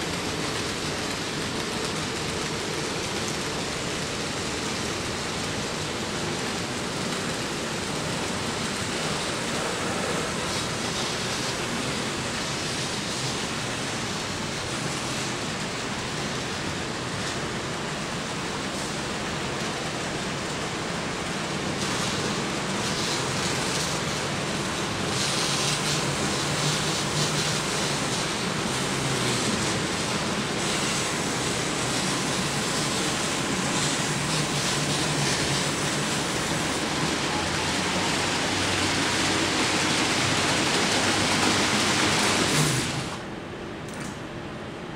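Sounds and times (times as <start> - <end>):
model train rumble: 0.0 - 43.4
model train hiss-like running noise: 0.0 - 44.1.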